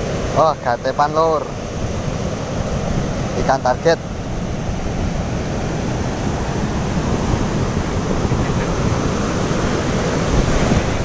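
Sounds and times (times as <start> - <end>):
ocean surf breaking: 0.0 - 11.0
wind blowing across microphone: 0.0 - 11.0.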